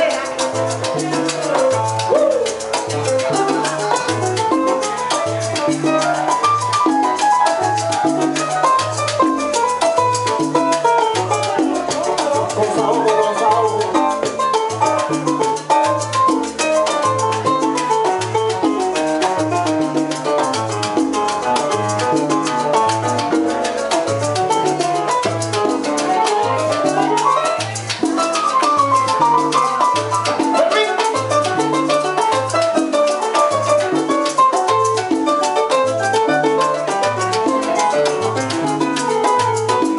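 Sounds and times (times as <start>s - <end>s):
keyboard piano montuno: 0.0s - 39.9s
percussion ticking: 0.0s - 39.9s
plucked upright bass: 0.0s - 39.9s.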